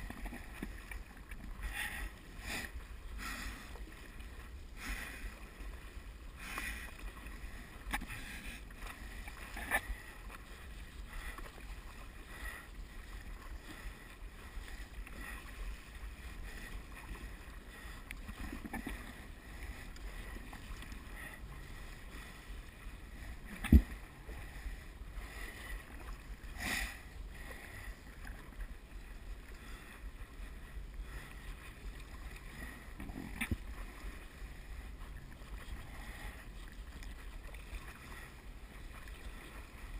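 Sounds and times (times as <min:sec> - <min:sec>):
paddle splashing through water: 0:00.0 - 0:39.9.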